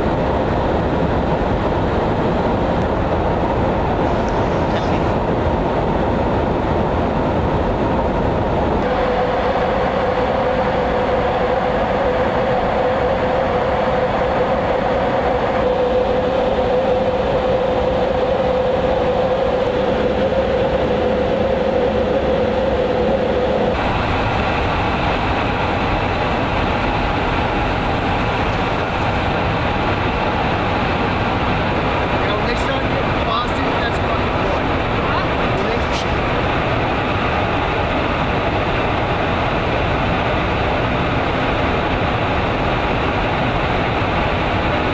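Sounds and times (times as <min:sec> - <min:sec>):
jet engine roar and rushing air: 0:00.0 - 0:44.9
steady whining tone: 0:00.0 - 0:44.9.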